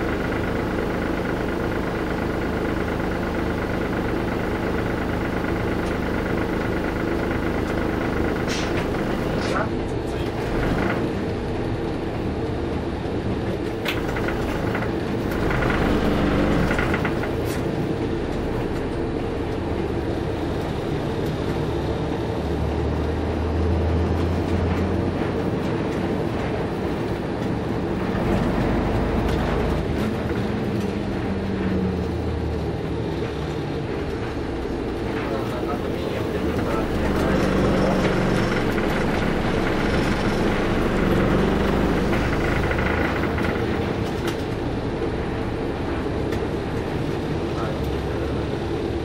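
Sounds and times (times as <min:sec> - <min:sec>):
bus cabin noise: 0:00.0 - 0:49.0
bus diesel engine droning: 0:00.0 - 0:49.0.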